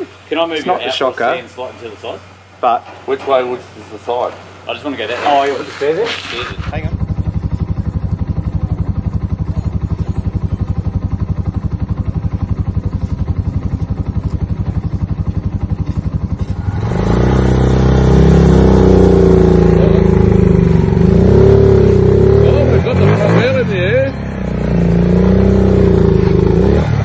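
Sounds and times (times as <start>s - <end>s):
motorcycle engine idling and revving: 3.3s - 27.0s.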